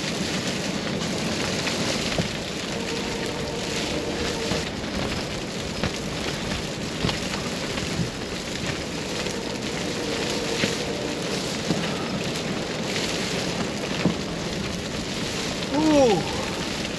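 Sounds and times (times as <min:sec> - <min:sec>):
blizzard wind rushing: 0:00.0 - 0:16.9.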